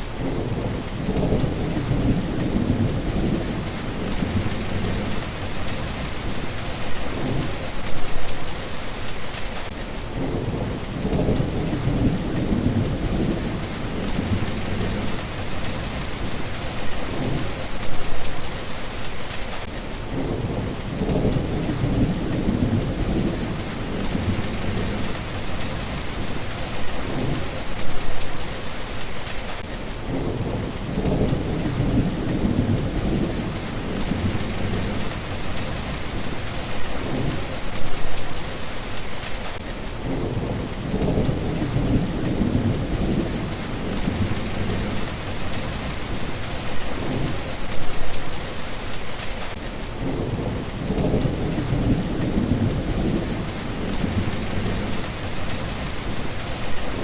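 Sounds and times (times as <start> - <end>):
low rolling thunder: 0.0 - 8.6, 10.1 - 18.5, 20.1 - 28.5, 30.0 - 38.6, 40.0 - 48.2, 50.0 - 57.0
heavy rain hissing: 0.0 - 57.0.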